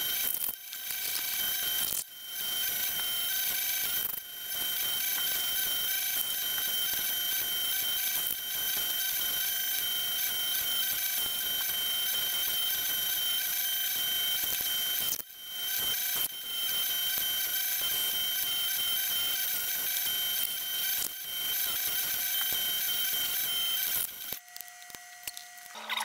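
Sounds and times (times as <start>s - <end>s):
belt sander whine: 0.0s - 26.0s.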